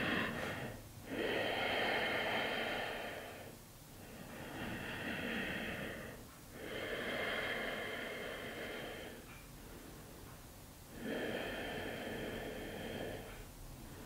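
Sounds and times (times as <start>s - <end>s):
person breathing slowly: 0.0s - 14.0s.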